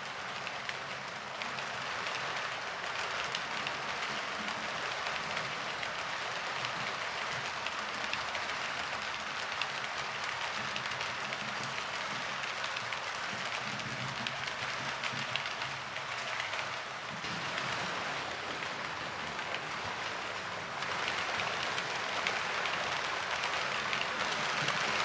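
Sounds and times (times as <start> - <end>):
model train wheels rattling: 0.0 - 25.0.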